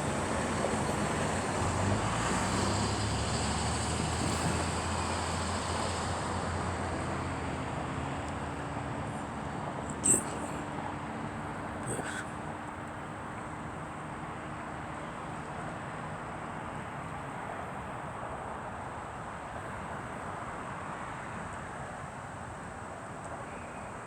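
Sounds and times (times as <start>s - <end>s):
road traffic rush: 0.0s - 23.0s.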